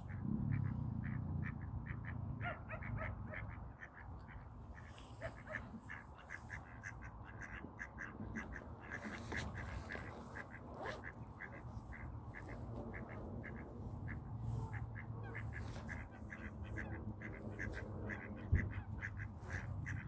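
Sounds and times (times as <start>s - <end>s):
ducks quacking: 0.0s - 20.0s
low steady rumble: 0.0s - 20.0s.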